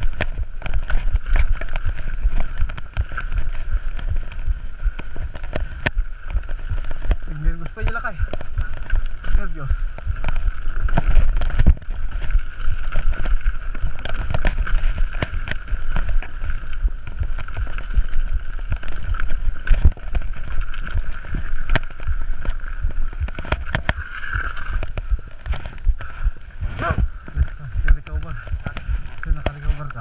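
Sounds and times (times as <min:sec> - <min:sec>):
bike rattling and clacking: 0:00.0 - 0:30.0
steady buzzing tone: 0:00.0 - 0:30.0
wind buffeting microphone: 0:00.0 - 0:30.0.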